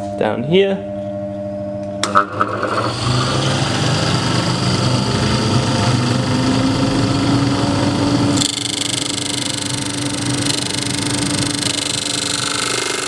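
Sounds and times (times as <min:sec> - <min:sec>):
disc sander running: 0:02.0 - 0:13.0.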